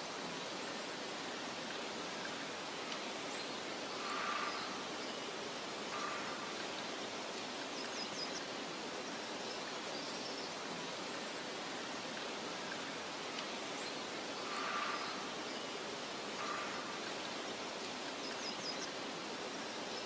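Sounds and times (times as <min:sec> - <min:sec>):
wind rustling: 0:00.0 - 0:20.0.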